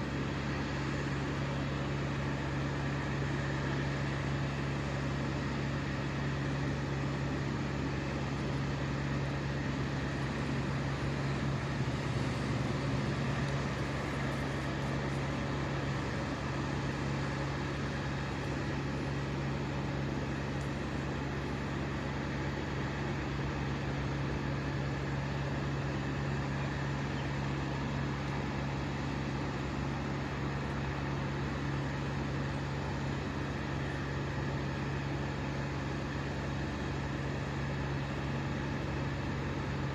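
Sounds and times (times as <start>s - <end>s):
engine running at high speed: 0.0s - 39.9s.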